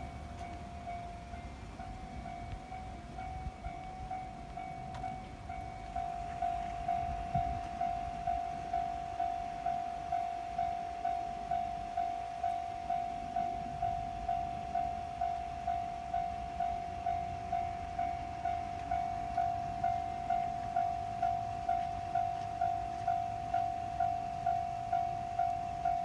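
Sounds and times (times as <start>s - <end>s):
level crossing alarm bell: 0.0s - 26.0s.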